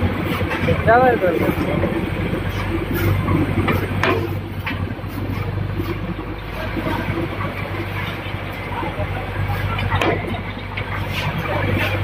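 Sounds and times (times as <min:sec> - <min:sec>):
machinery motor hum: 0:00.0 - 0:12.0.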